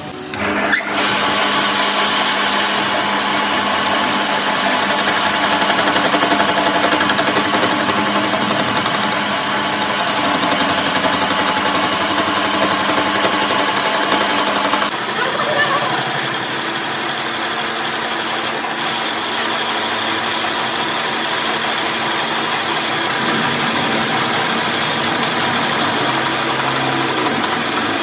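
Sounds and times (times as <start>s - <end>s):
workshop machinery rattling: 0.0s - 28.0s.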